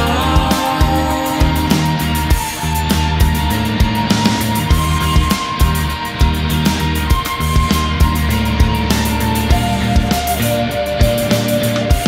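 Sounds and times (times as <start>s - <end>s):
held high note stepping down: 0.0s - 11.9s
bass guitar: 0.0s - 12.0s
drums keeping steady beat: 0.0s - 12.0s.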